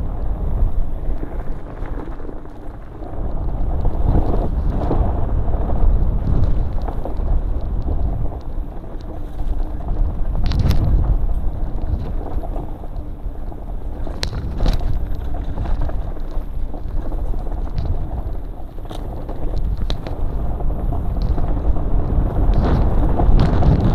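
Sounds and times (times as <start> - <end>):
bike clicking and rattling: 0.0 - 23.9
bike tyres rumbling over dirt: 0.0 - 23.9
wind on microphone: 0.0 - 23.9.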